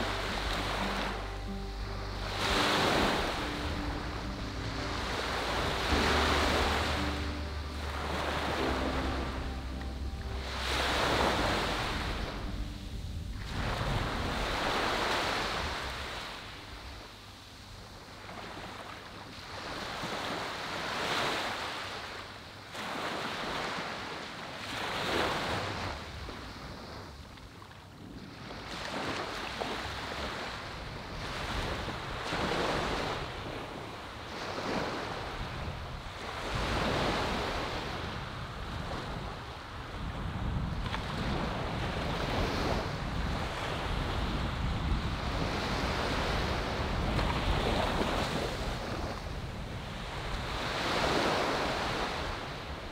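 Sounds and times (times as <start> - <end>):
small waves breaking on beach: 10.4 - 52.9.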